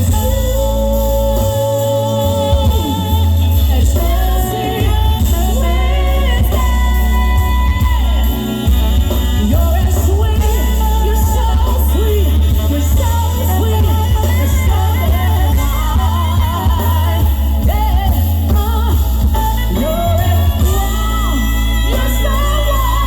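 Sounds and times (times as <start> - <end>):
heavy bass: 0.0 - 23.0
live band music: 0.0 - 23.0
singer holding long notes: 0.0 - 23.0.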